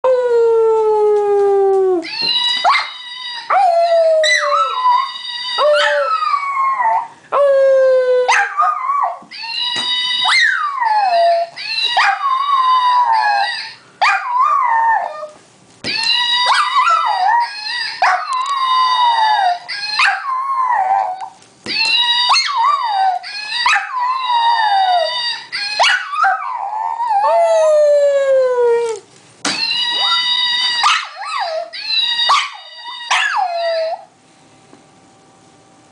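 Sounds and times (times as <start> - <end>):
dog howling: 0.0 - 34.1.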